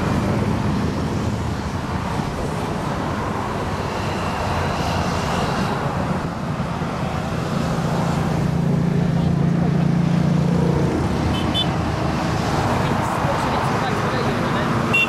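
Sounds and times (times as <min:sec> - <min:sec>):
motorcycles passing: 0:00.0 - 0:15.0.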